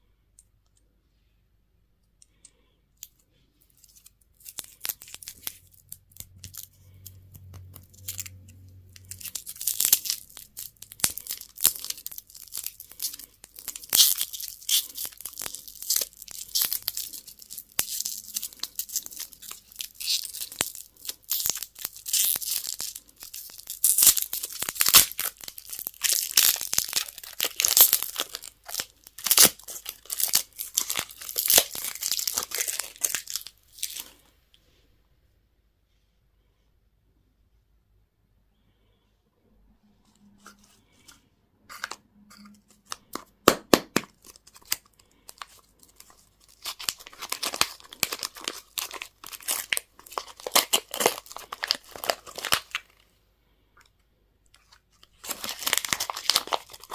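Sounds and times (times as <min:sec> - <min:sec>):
candy wrappers tearing and crinkling: 0:02.3 - 0:34.3, 0:40.4 - 0:53.0, 0:54.6 - 0:56.9.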